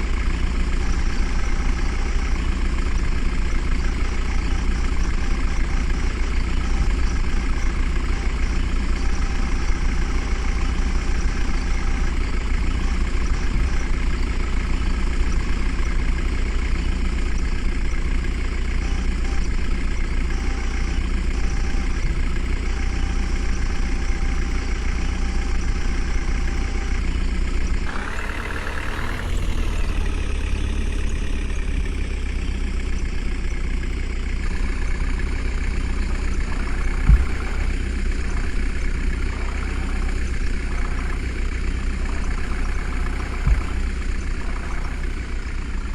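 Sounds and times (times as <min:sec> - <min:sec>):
heavy diesel engine idling: 0:00.0 - 0:45.9.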